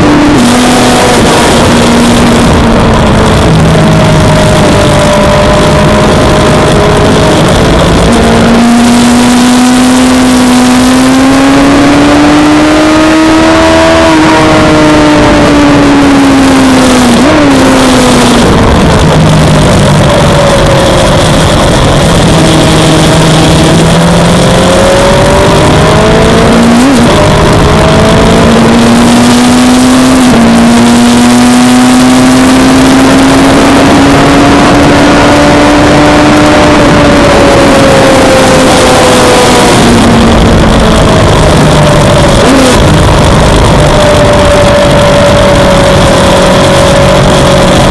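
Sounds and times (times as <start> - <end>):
motorcycle engine revving: 0.0 - 47.9
wind rush on microphone: 0.0 - 47.9.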